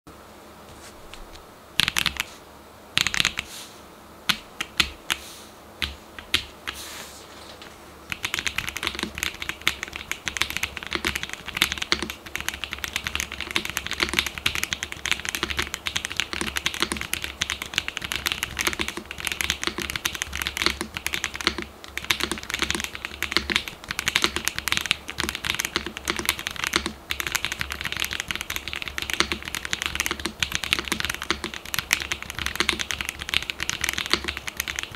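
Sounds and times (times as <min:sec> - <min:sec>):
mechanical keyboard typing: 0:01.8 - 0:02.3, 0:03.0 - 0:03.4, 0:04.3 - 0:05.2, 0:05.8 - 0:06.8, 0:08.1 - 0:34.9.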